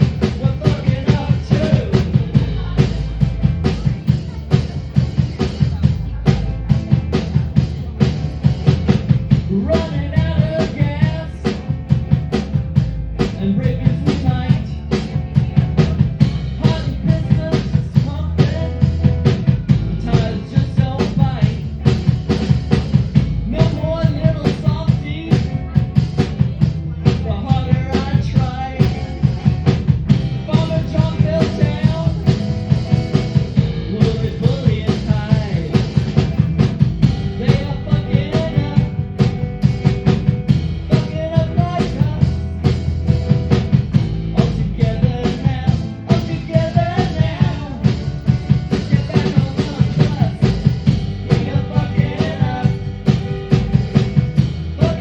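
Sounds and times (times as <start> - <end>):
drum kit beat: 0.0 - 55.0
live rock band playing: 0.0 - 55.0
person singing: 8.9 - 22.4, 23.3 - 55.0.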